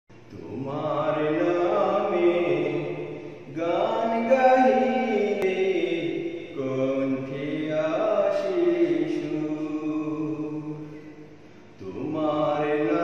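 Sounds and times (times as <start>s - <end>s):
man singing slow religious song: 0.2s - 13.0s.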